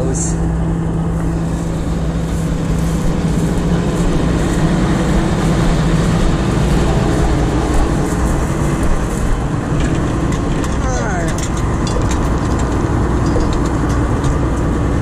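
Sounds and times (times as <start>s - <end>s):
combine harvester humming: 0.0s - 15.0s.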